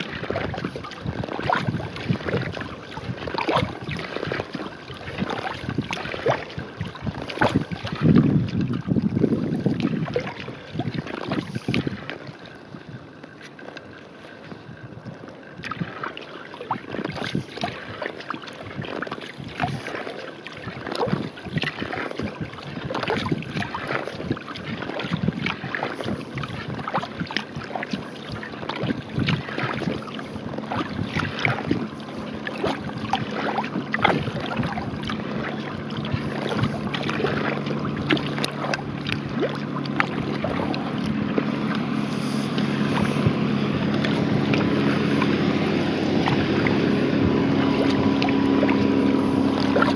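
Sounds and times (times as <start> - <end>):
distant motorboat engine hum: 0.0 - 49.9
paddle blades splashing in water: 0.0 - 49.9.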